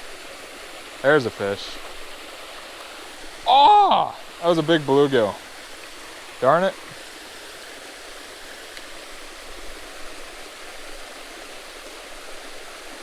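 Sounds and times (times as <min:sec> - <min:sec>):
water pouring over waterfall: 0:00.0 - 0:13.0.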